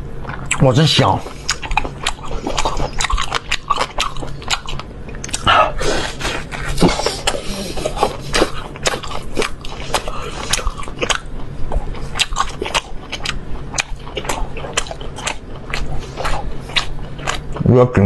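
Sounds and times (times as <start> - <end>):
chewing with wet smacks: 0.2 - 5.5, 6.4 - 17.7.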